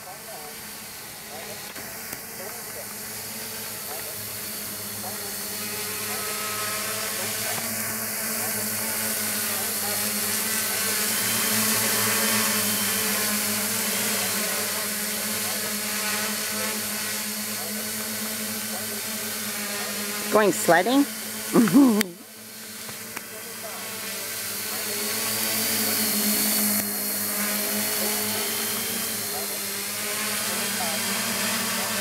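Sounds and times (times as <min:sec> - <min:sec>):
quadcopter motors buzzing: 0:00.0 - 0:32.0.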